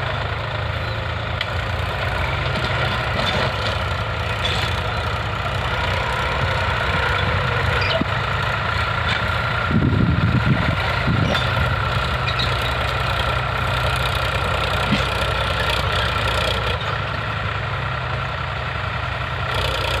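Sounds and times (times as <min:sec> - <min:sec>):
tractor motor running: 0:00.0 - 0:20.0.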